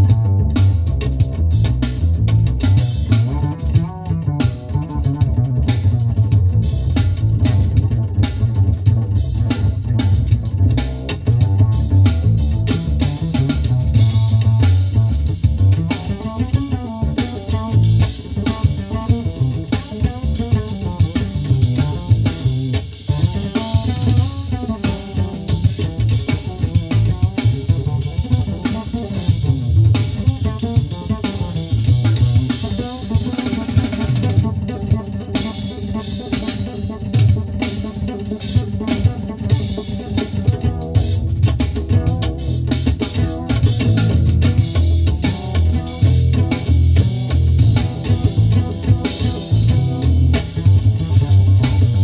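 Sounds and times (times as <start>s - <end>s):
busy drum kit: 0.0s - 52.0s
jazz fusion over car speakers: 0.0s - 52.0s.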